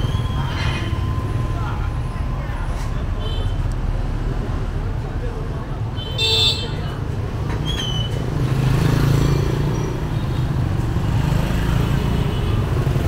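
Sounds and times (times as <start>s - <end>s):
motor scooter engines rumbling: 0.0s - 13.0s.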